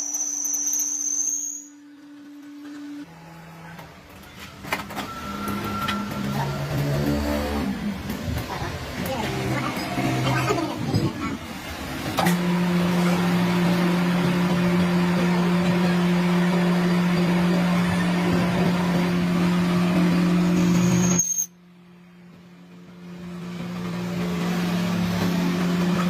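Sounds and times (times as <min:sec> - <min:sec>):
workshop machine humming: 0:00.0 - 0:26.0.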